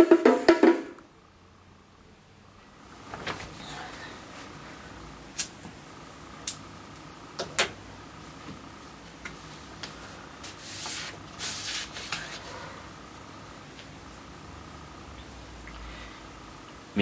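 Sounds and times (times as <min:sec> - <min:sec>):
faint steady whine: 0:00.9 - 0:17.0.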